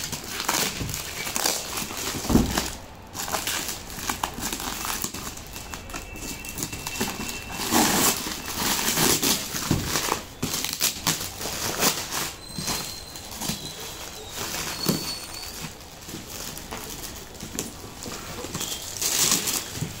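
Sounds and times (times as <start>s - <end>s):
plastic wrap crinkling and tearing: 0.0s - 20.0s.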